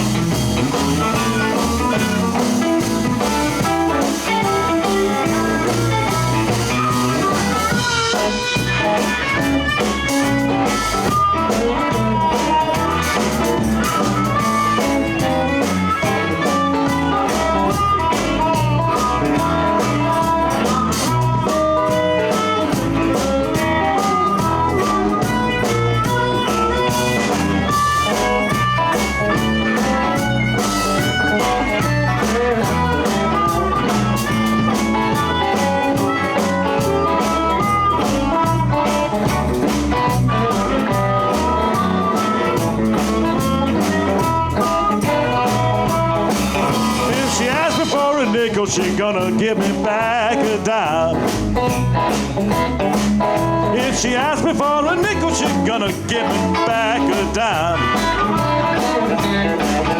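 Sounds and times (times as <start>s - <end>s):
blues band playing: 0.0s - 59.9s
lead guitar single notes: 0.0s - 59.9s.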